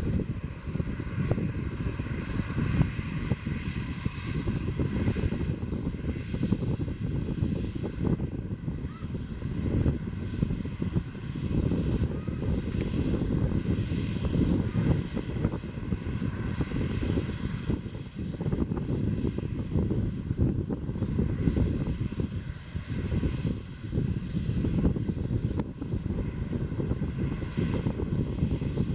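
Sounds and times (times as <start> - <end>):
faint jet whine: 0.0 - 28.9
jet engines rumbling: 0.0 - 28.9.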